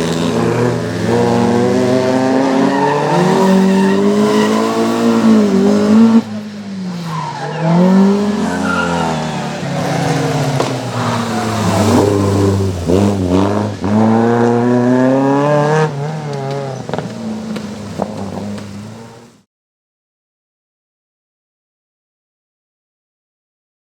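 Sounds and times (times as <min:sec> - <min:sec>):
rally car engine revving: 0:00.0 - 0:19.4.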